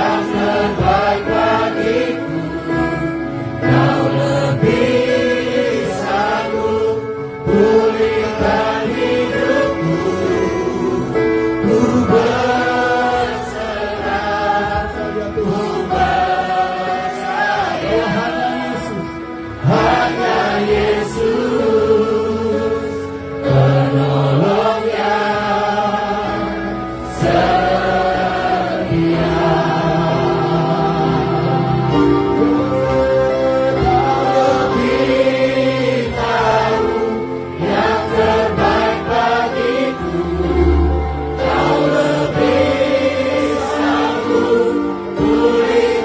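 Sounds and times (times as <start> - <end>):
group singing a worship song: 0.0 - 46.0
sustained accompaniment: 0.0 - 46.0.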